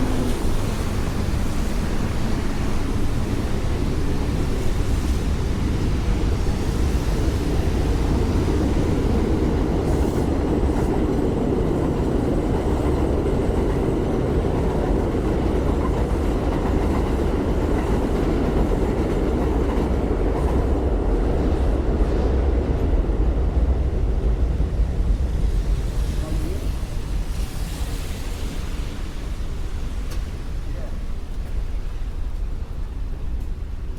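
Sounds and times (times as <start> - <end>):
elevated subway train passing: 0.0 - 33.9.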